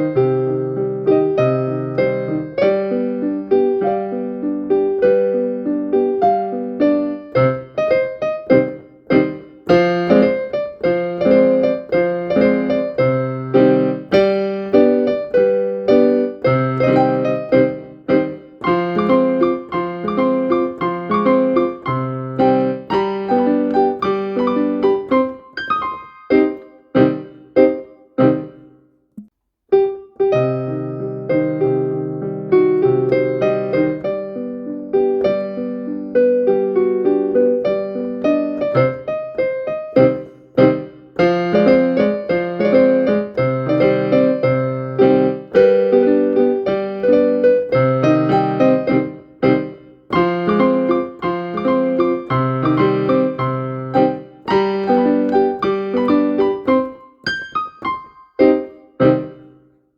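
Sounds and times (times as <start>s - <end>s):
slow piano melody: 0.0s - 59.9s.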